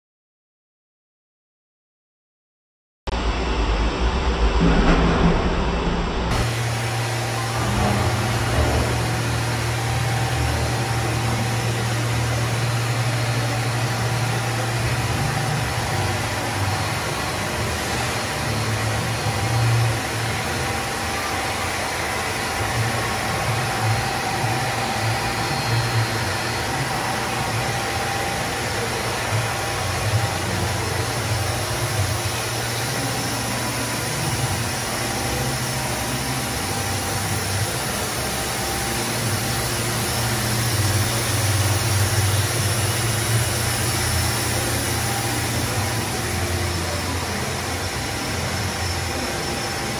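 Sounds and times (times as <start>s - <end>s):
pumps and motors humming: 3.1s - 49.9s
machinery hiss: 6.3s - 49.9s.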